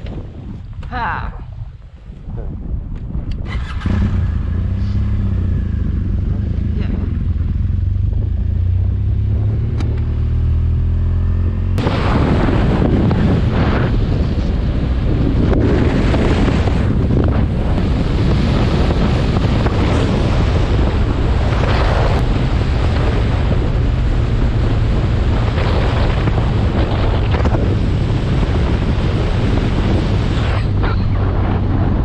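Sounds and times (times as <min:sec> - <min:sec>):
wind buffeting microphone: 0:00.0 - 0:32.0
motorcycle engine drone: 0:02.2 - 0:32.0.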